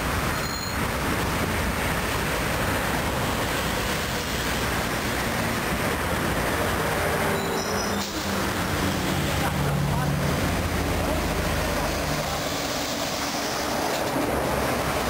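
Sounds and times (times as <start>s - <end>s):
highway traffic rushing: 0.0s - 15.0s.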